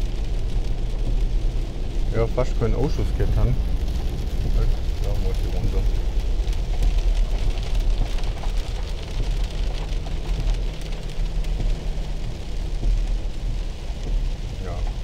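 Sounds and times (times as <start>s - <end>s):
car engine and tyres rumbling: 0.0s - 15.0s
rain ticking on windscreen: 0.0s - 15.0s.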